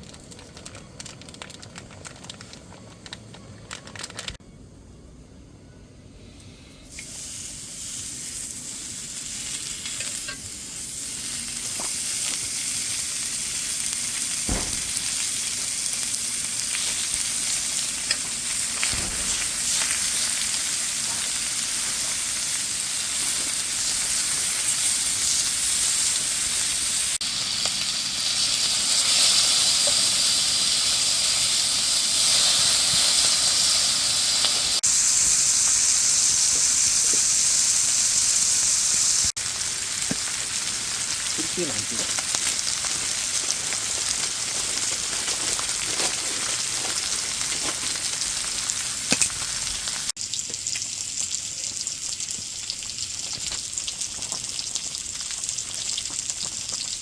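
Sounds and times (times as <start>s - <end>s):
food sizzling: 6.8s - 57.0s.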